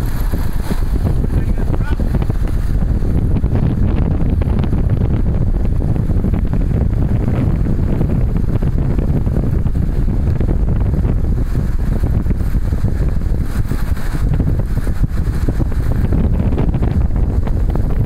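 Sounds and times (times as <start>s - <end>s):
car road noise: 0.0s - 18.0s
wind rumble on microphone: 0.0s - 18.0s.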